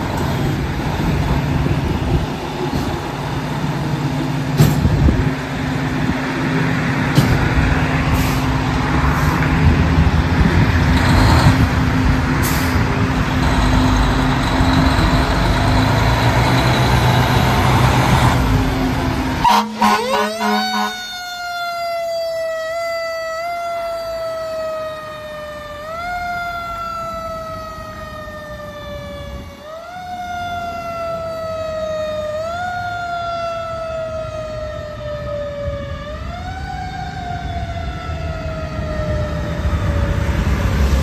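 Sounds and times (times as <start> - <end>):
fire truck siren wailing: 0.0 - 41.0
low road rumble: 0.0 - 41.0.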